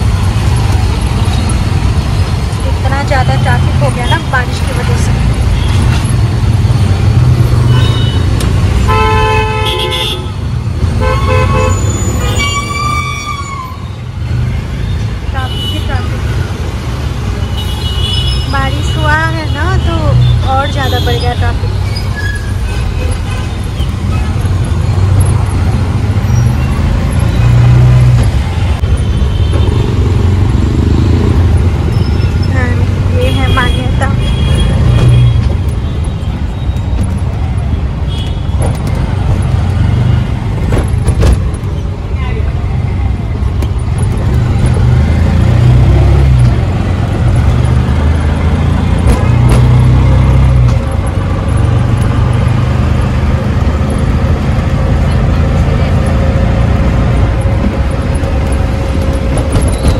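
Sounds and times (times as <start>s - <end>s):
road noise: 0.0s - 59.9s
vehicle engine rumble: 0.0s - 59.9s.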